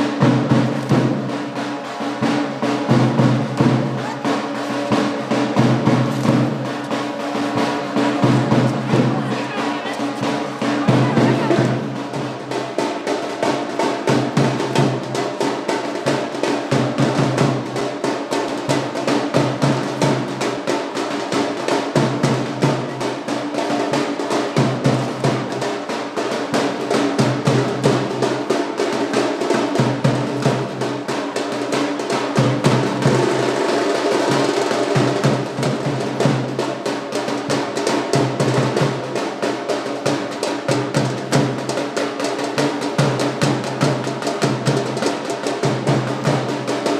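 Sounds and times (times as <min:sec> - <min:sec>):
fast drumming: 0:00.0 - 0:46.9.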